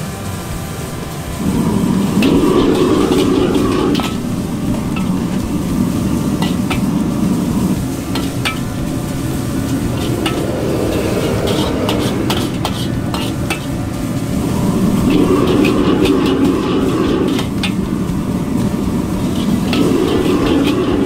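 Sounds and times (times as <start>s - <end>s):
gas burner rushing: 0.0s - 21.0s
noodles sizzling in a wok: 0.0s - 21.0s
metal ladle scraping wok: 1.0s - 21.0s.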